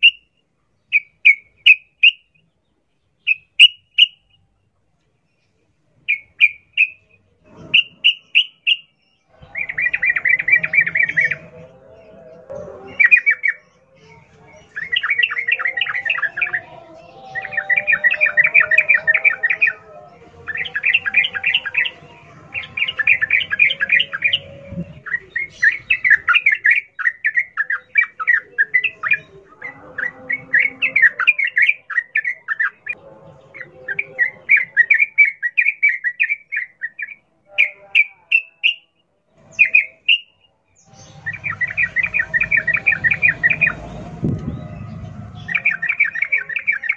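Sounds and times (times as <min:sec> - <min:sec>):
bird chattering song: 0:00.0 - 0:04.5, 0:05.3 - 0:46.9.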